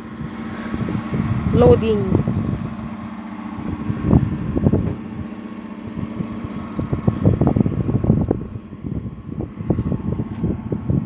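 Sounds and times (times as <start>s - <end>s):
pickup truck engine humming: 0.0s - 11.0s.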